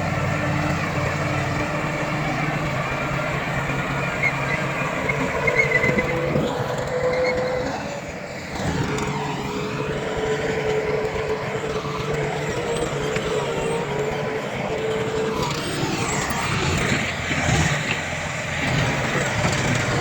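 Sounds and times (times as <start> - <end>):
diesel earthmoving machinery whine: 0.0 - 20.0.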